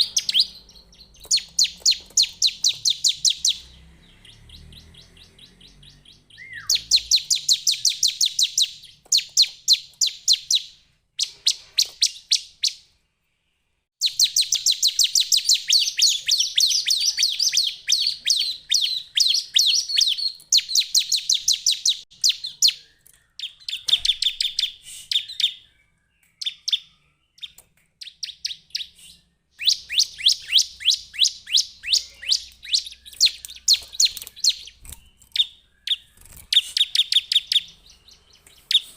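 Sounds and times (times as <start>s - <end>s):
bird sharp high chirps: 0.0s - 13.0s, 14.0s - 38.9s.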